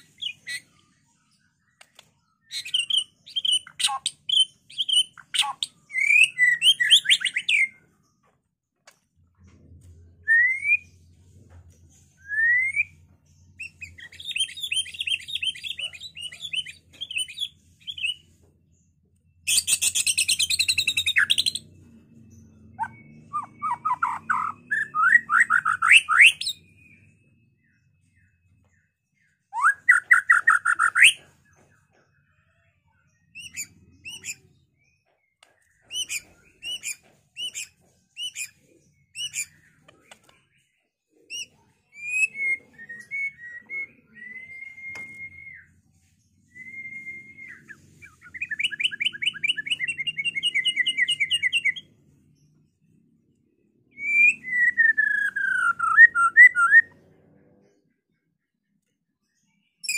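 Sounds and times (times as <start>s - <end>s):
bird singing whistles and trills: 1.5s - 7.8s, 10.1s - 11.1s, 12.0s - 18.3s, 19.4s - 32.5s, 33.1s - 40.7s, 41.3s - 52.0s, 53.9s - 57.0s, 59.7s - 59.9s.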